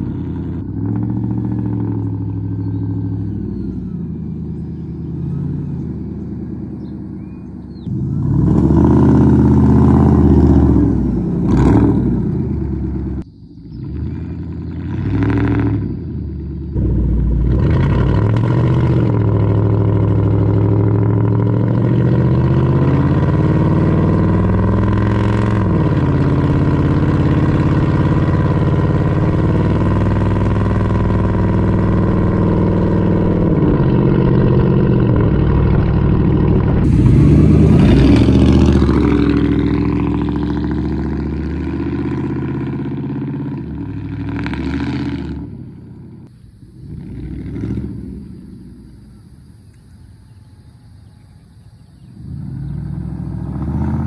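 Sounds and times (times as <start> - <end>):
loud truck exhaust accelerating: 0.0 - 54.0.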